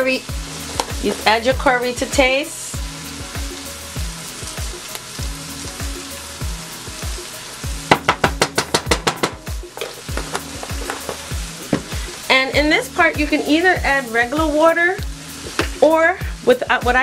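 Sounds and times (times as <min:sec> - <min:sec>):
vegetables sizzling in a pan: 0:00.0 - 0:17.0
background music with a beat: 0:00.3 - 0:17.0.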